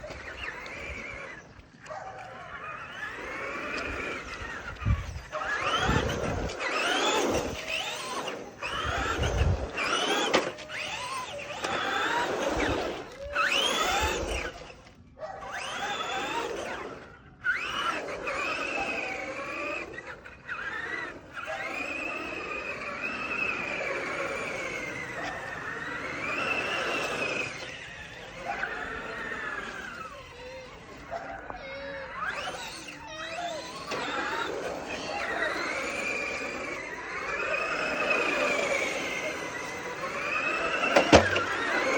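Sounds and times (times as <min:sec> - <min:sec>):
toy car motor whining: 0:00.0 - 0:41.9.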